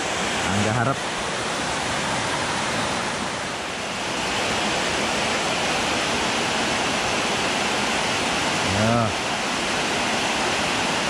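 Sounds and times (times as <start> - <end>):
river rushing through white water: 0.0 - 11.0.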